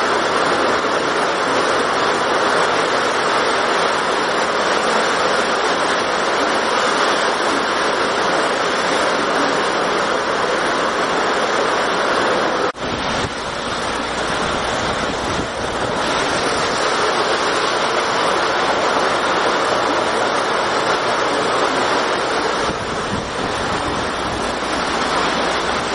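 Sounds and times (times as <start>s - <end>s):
heavy rain on a metal roof: 0.0s - 25.9s.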